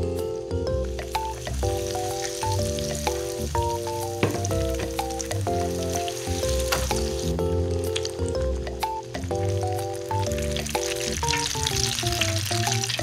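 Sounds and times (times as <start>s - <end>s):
mallet-like background tune: 0.0s - 11.4s
food deep-frying in hot oil: 0.8s - 13.0s.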